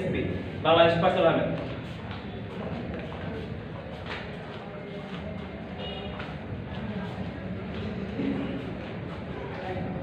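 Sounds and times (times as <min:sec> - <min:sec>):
room noise hiss and hum: 0:00.0 - 0:10.0.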